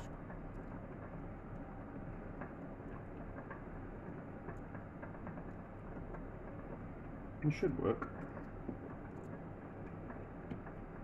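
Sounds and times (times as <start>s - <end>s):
water heating in a pot: 0.0s - 11.0s.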